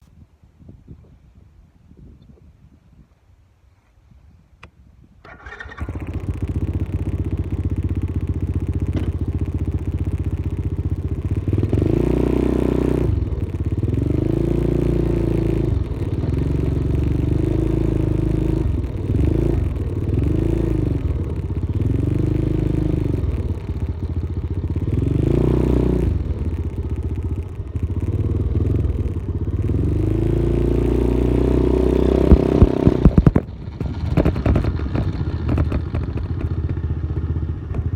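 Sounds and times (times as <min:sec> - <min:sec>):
dirt bike engine revving: 0:05.3 - 0:36.7.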